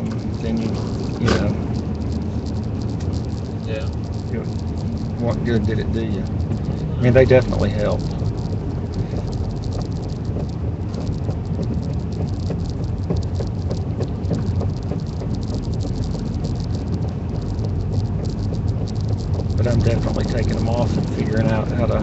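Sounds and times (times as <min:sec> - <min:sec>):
low road rumble: 0:00.0 - 0:22.0
tire chains clattering: 0:00.0 - 0:22.0.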